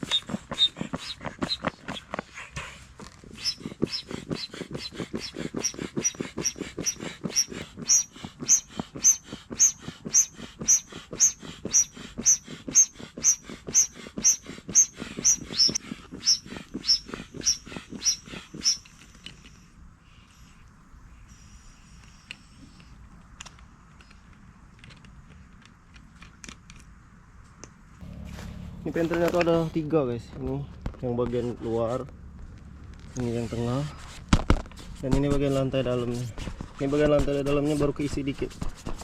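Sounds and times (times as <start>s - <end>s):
manual air pump strokes: 0.0s - 26.3s, 33.1s - 39.0s.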